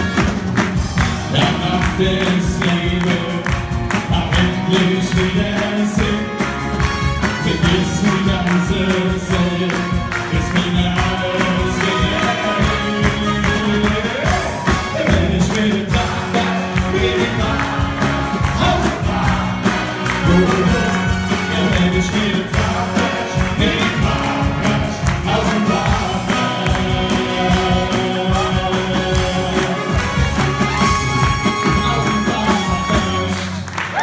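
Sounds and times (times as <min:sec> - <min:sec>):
backing music with steady beat: 0:00.0 - 0:33.6
men singing into microphones: 0:01.2 - 0:06.6, 0:07.3 - 0:33.5.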